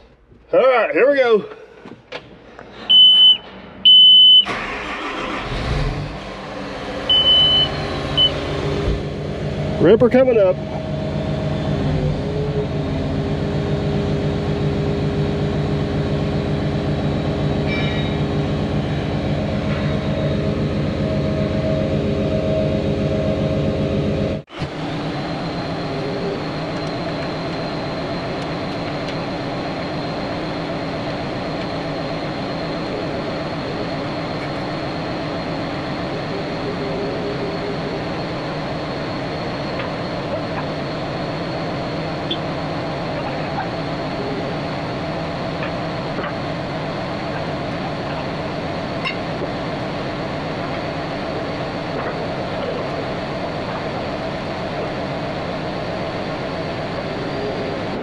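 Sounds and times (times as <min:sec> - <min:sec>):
diesel engine running: 0:02.6 - 0:58.0
thin high whine: 0:06.4 - 0:58.0.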